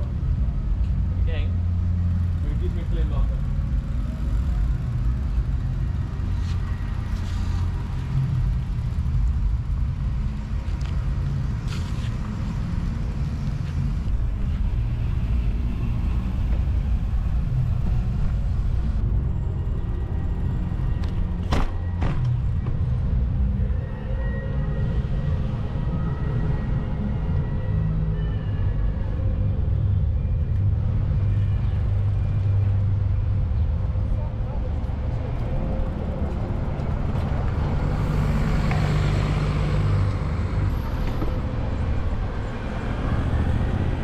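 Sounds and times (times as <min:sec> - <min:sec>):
bicycle road noise: 0:00.0 - 0:44.0.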